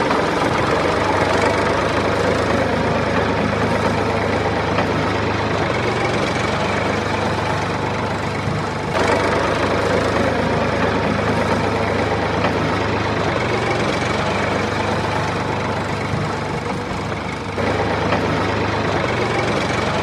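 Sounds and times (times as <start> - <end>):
motor droning: 0.0 - 20.0.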